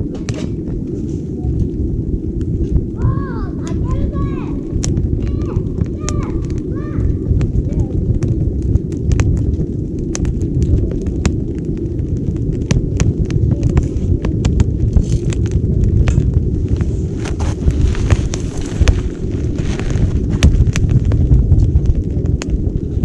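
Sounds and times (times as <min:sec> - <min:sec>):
low rumble of stove: 0:00.0 - 0:23.0
wood fire crackling and popping: 0:00.0 - 0:23.0.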